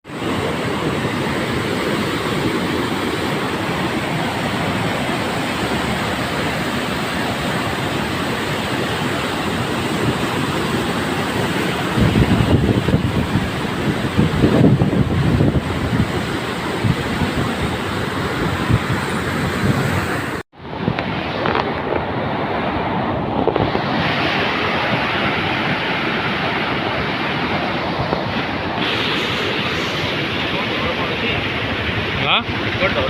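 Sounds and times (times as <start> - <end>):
floodwater roaring: 0.0 - 33.0
wind buffeting microphone: 0.1 - 30.9.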